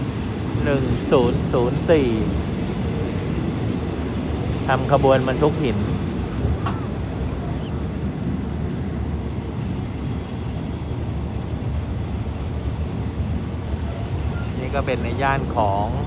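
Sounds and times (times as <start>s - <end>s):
passenger train rumbling on track: 0.0s - 16.0s.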